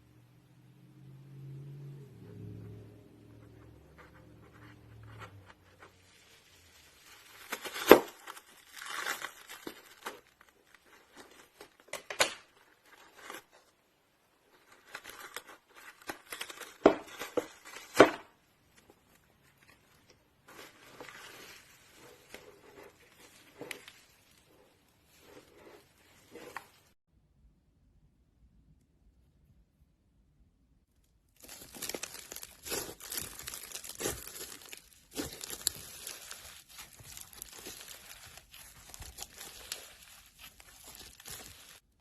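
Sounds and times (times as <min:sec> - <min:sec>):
squishy slime kneading: 0:03.4 - 0:27.0, 0:31.4 - 0:42.0.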